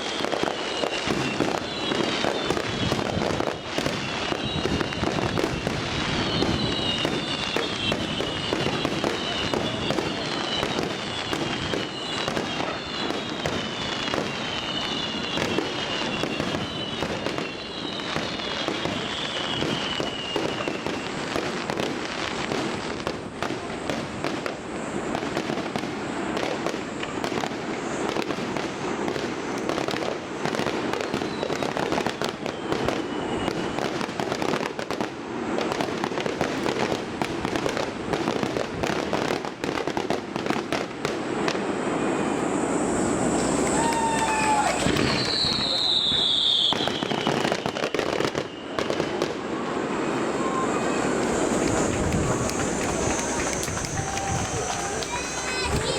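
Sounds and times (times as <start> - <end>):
falling firework whistles: 0.0 - 55.9
fireworks bursts and crackling: 0.0 - 55.9.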